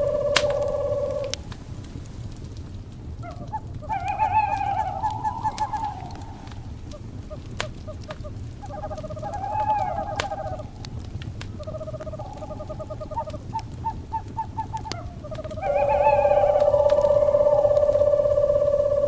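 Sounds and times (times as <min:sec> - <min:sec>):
owls calling: 0:00.0 - 0:01.6, 0:03.2 - 0:19.0
wood fire crackling and popping: 0:00.0 - 0:19.0.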